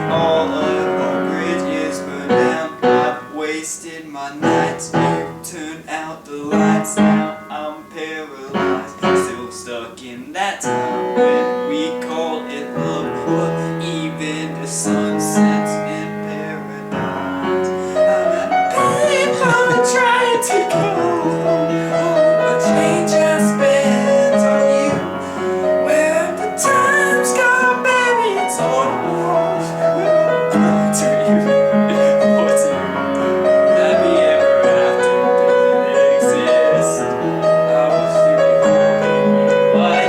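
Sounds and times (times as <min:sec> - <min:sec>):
person singing: 0:00.0 - 0:40.0
piano chords: 0:00.0 - 0:40.0.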